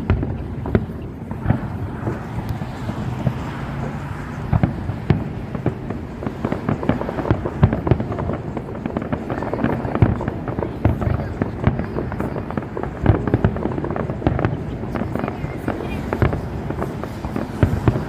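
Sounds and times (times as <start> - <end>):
fireworks bangs and crackling: 0.0 - 18.0
heavy firework booms: 0.0 - 18.0.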